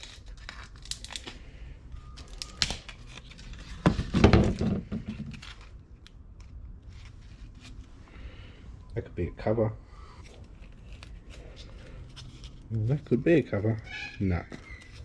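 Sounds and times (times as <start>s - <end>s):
crinkling handling noise: 0.0s - 8.7s, 10.0s - 15.0s.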